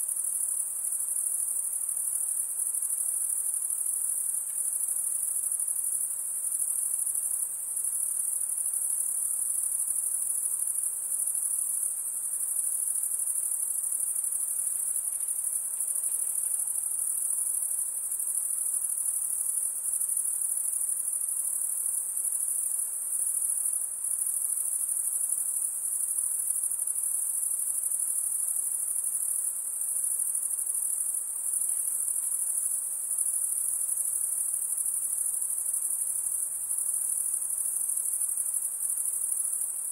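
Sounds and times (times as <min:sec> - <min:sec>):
shrill insect chorus: 0:00.0 - 0:39.9.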